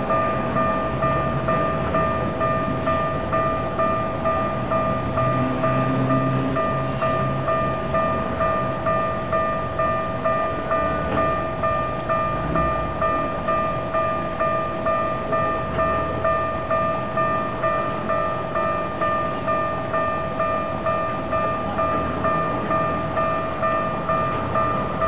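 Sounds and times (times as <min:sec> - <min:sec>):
level crossing bell ringing: 0:00.0 - 0:25.0.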